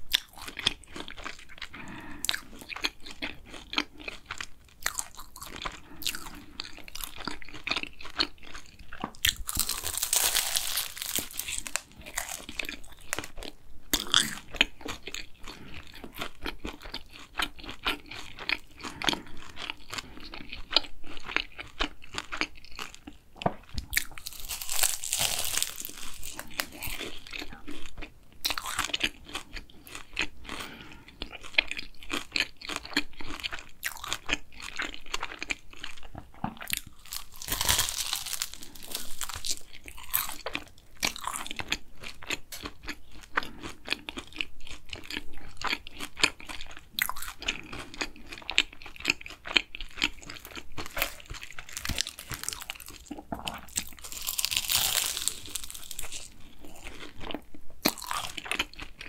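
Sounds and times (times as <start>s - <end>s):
chewing crunchy pastry: 0.0s - 59.0s.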